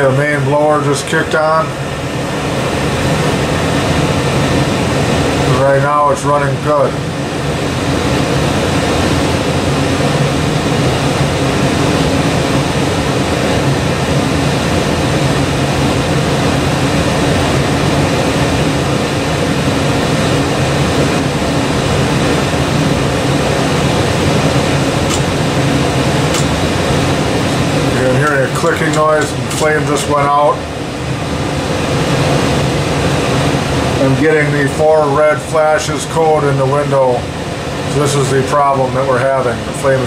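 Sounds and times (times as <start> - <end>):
gas furnace rushing hum: 0.0 - 40.0.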